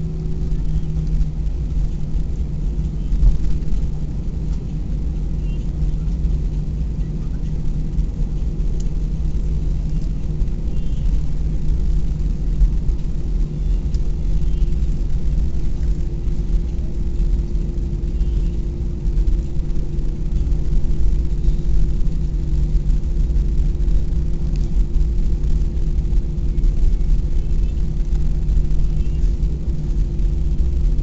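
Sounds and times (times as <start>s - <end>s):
aircraft engines and wheels rumbling: 0.0s - 31.0s
low hum: 0.0s - 31.0s.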